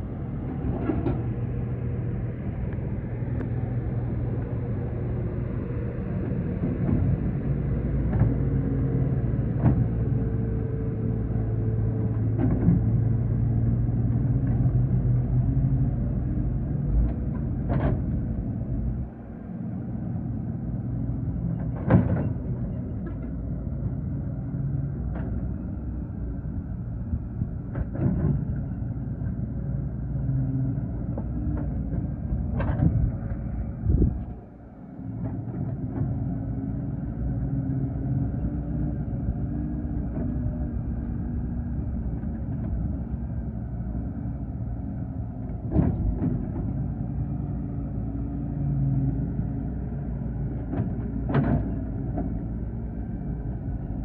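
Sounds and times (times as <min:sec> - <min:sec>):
excavator engine running: 0:00.0 - 0:54.0.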